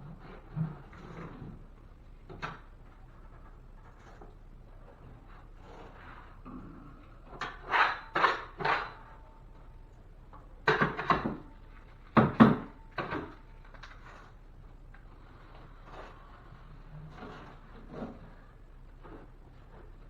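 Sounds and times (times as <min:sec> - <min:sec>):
drywall tool scraping: 0:00.0 - 0:09.3, 0:10.8 - 0:20.0
low steady background noise: 0:00.0 - 0:20.0.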